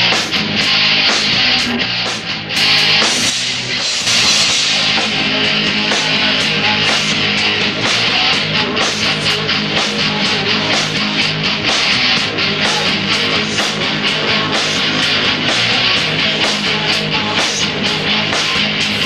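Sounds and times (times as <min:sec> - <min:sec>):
distorted electric guitar: 0:00.0 - 0:19.0
drum kit: 0:00.0 - 0:19.0.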